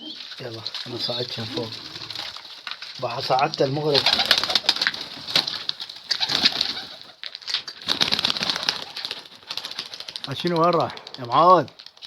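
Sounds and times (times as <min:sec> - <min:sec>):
pigeon wings clattering: 0:00.0 - 0:12.0.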